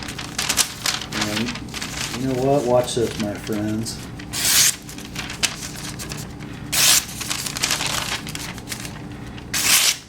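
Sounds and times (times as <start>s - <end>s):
blade slicing through paper: 0.0s - 10.0s
paper crinkling: 0.0s - 10.0s.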